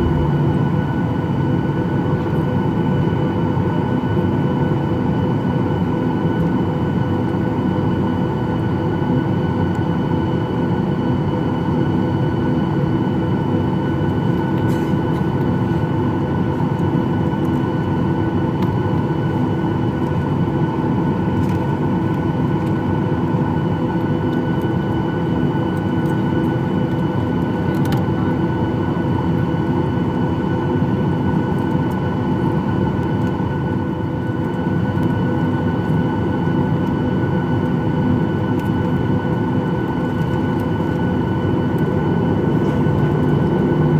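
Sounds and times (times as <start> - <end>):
airplane cabin engine drone: 0.0 - 43.9.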